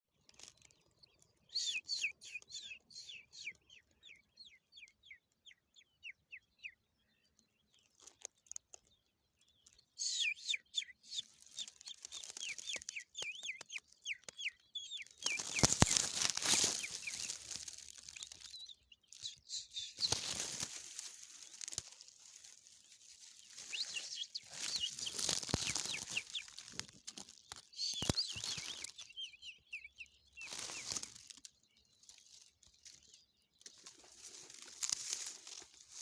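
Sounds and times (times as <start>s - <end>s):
skylarks chirping: 0.4s - 36.0s.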